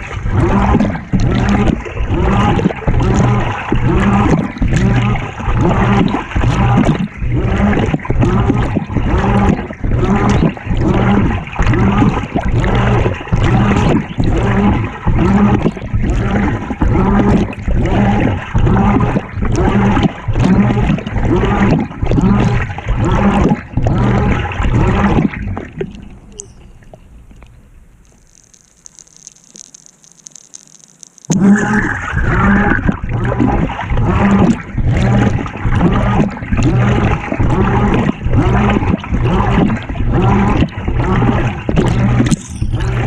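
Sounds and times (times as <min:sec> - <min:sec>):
washer motor hum: 0:00.0 - 0:29.0, 0:31.3 - 0:43.0
water churning in washer tub: 0:00.0 - 0:29.8, 0:31.3 - 0:43.0.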